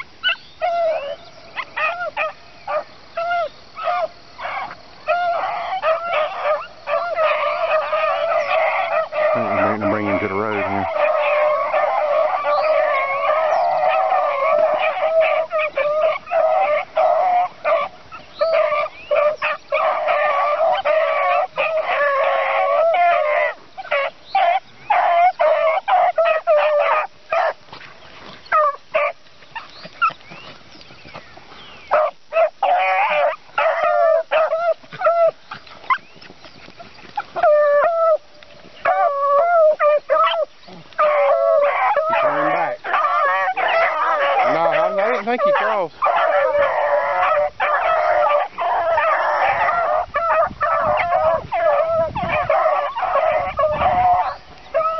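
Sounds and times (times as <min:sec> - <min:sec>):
beagles baying: 0:00.0 - 0:54.9.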